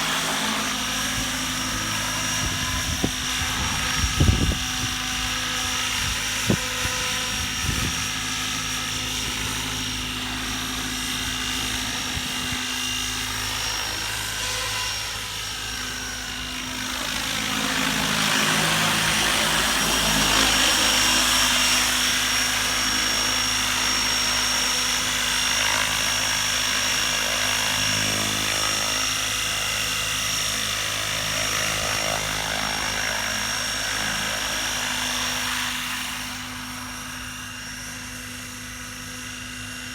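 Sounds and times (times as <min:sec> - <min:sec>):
model helicopter motor whining: 0:00.0 - 0:39.9.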